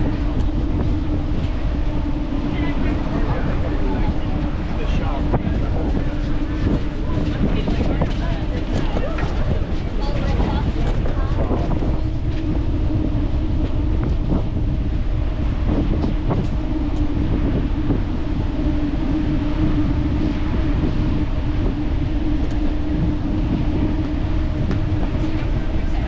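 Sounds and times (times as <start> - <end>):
steady hum: 0.0 - 26.0
wind on microphone: 0.0 - 26.0.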